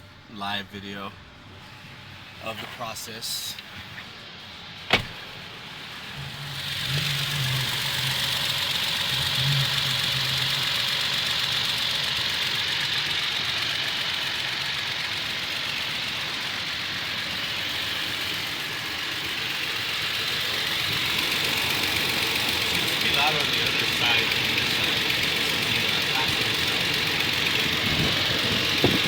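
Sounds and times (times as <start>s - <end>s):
pickup engine idling: 0.0s - 29.0s
loud engine ticking: 5.0s - 29.0s.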